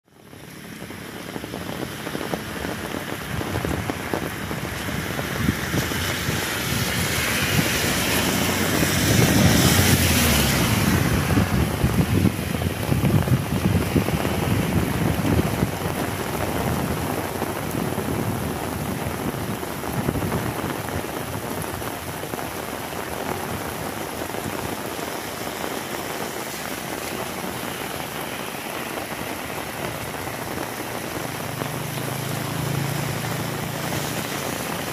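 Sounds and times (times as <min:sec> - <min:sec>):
heavy rain falling: 0:00.1 - 0:34.9
wind gusts on microphone: 0:00.2 - 0:34.9.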